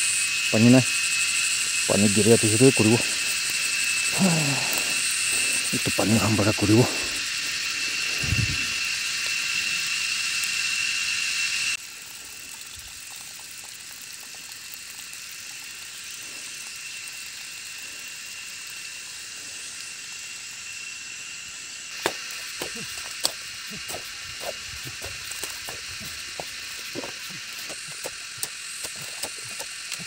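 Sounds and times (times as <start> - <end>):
water running in channel: 0.0 - 21.0, 21.9 - 30.0
high hiss with thin whine: 0.0 - 30.0.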